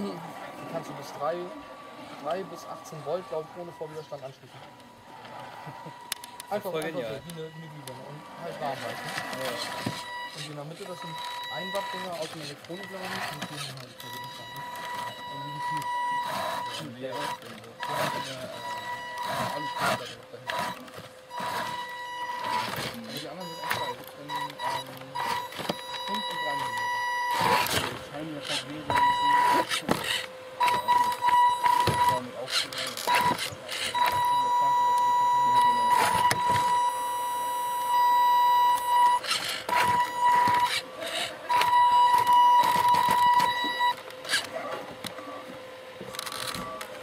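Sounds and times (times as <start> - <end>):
model truck electric motor whining: 0.0 - 47.0.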